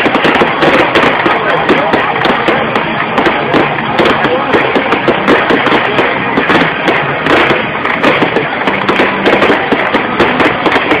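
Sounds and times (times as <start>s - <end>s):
crowd chatter: 0.0s - 11.0s
fireworks bangs and crackles: 0.0s - 11.0s.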